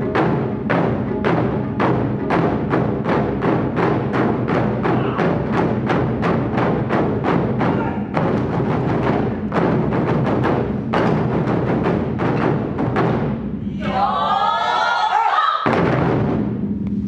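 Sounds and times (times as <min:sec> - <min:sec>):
taiko drum ensemble playing: 0:00.0 - 0:14.6, 0:15.6 - 0:17.0.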